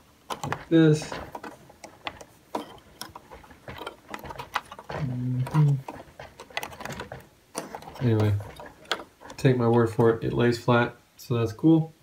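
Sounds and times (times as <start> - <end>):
plastic bricks clicking and rattling: 0.3 - 10.2.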